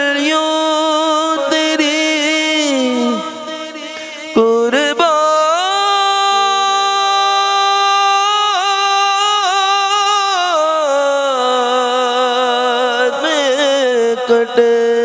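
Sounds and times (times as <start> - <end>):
man singing a devotional song: 0.0 - 15.0.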